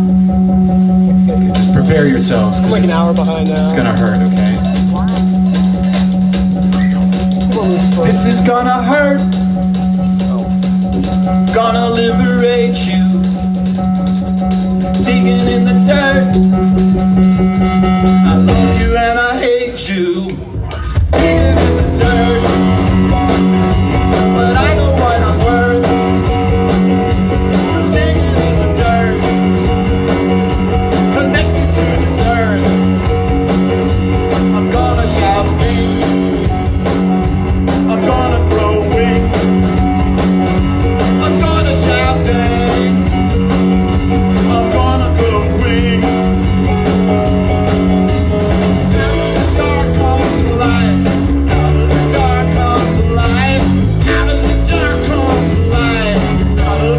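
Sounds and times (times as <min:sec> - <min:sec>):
bass guitar: 0:00.0 - 0:56.9
drums: 0:00.0 - 0:56.9
electric guitar: 0:00.0 - 0:56.9
keyboards: 0:00.0 - 0:56.9.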